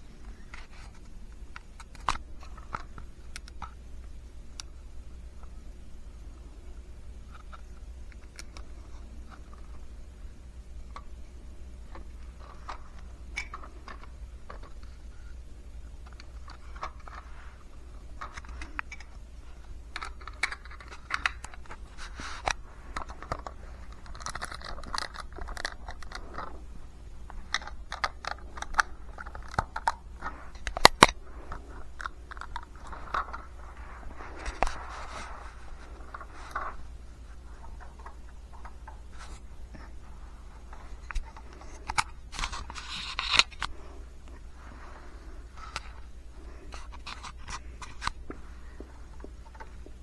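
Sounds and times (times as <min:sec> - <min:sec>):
small clicks and crunchy rustles: 0:00.0 - 0:50.0.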